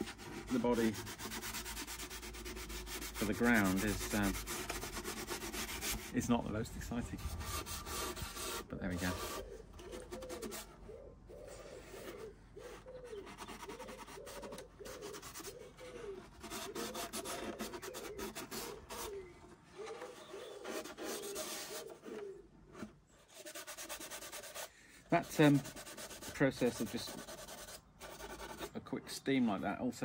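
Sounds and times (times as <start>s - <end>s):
sandpaper rubbing on wood: 0.0s - 10.7s, 11.8s - 19.2s, 20.0s - 22.2s, 23.2s - 29.2s.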